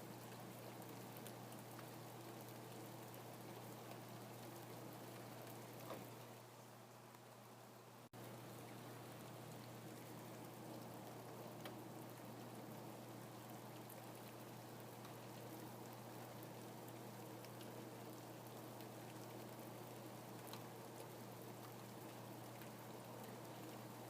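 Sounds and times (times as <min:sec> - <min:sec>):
rain hiss: 0:00.0 - 0:24.0
raindrops ticking: 0:00.2 - 0:06.2, 0:08.2 - 0:24.0.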